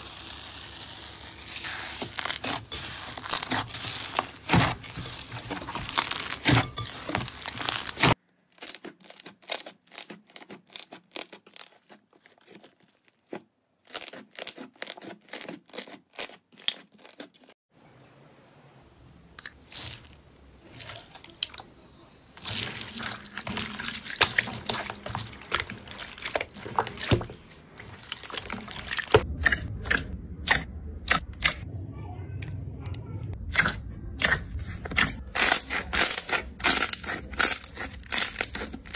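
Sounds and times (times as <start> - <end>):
slime crackling and popping: 0.0 - 17.2, 22.4 - 31.6, 33.5 - 38.9.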